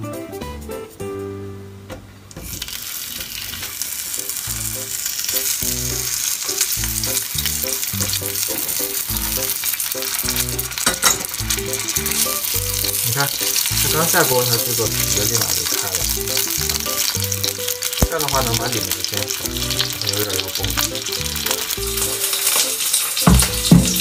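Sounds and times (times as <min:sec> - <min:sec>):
sausages sizzling in oil: 0:02.4 - 0:24.0.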